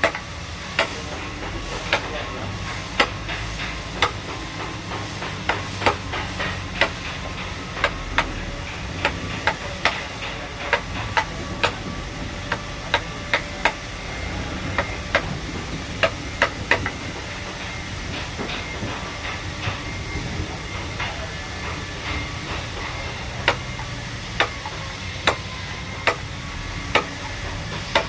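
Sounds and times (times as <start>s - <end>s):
tool tapping on wood: 0.0s - 13.9s, 14.7s - 19.9s, 20.7s - 26.2s, 26.9s - 28.0s.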